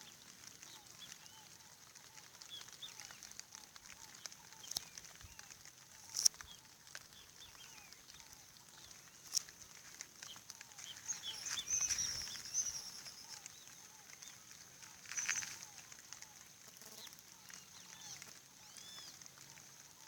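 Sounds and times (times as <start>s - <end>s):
faint clicks: 0.0s - 20.0s
small animal chirps: 0.6s - 20.0s.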